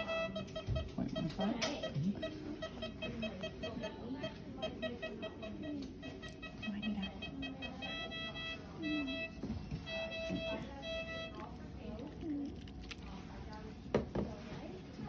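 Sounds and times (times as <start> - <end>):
patient monitor beeping: 0.0 - 13.9.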